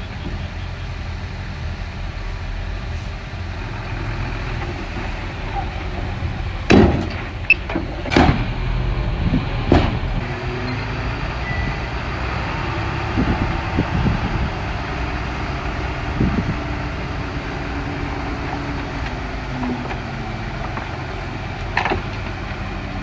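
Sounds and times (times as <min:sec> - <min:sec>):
bulldozer engine rumbling: 0:00.0 - 0:23.0.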